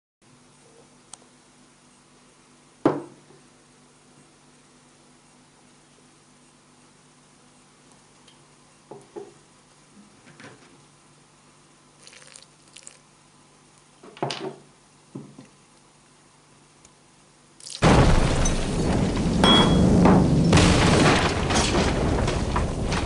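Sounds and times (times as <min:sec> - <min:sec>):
faint steady hum: 0:00.2 - 0:23.0.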